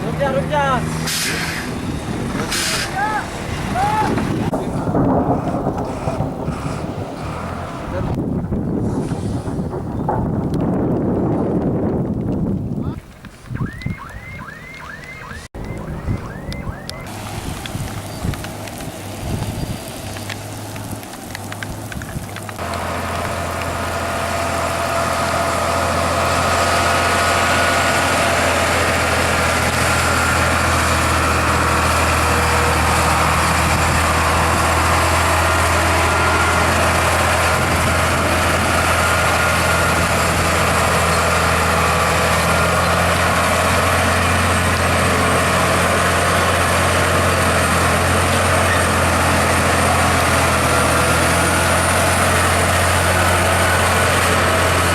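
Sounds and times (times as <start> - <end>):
truck diesel engine running: 0.0 - 11.9, 14.8 - 54.9.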